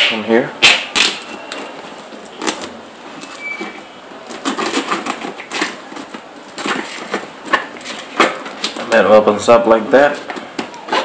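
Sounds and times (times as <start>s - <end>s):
tool picking through packing tape: 0.0s - 9.0s, 10.2s - 11.0s.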